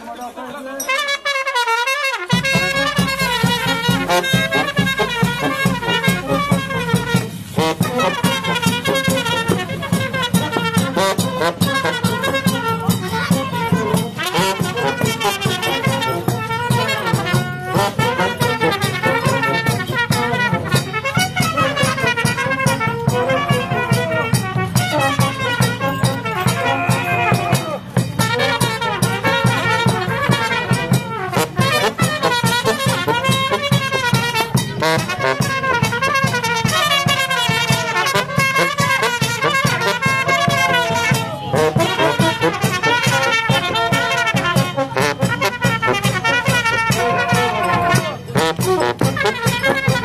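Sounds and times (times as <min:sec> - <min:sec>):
brass band playing: 0:00.8 - 0:50.0
drum beat: 0:02.2 - 0:50.0.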